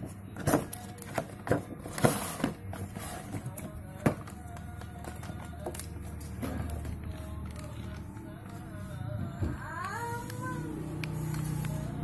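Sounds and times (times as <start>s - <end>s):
faint music: 0.0s - 12.0s.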